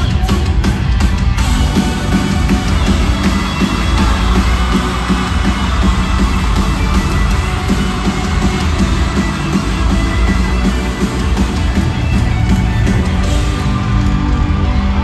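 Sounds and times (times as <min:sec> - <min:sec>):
driving drum beat: 0:00.0 - 0:15.0
live rock band: 0:00.0 - 0:15.0.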